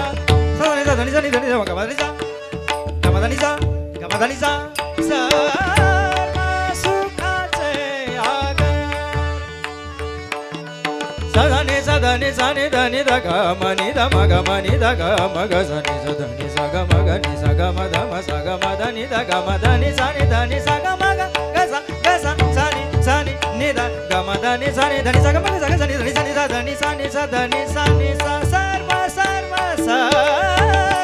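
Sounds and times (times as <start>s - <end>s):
hand drums playing rhythms: 0.0s - 31.0s
harmonium melody and drone: 0.0s - 31.0s.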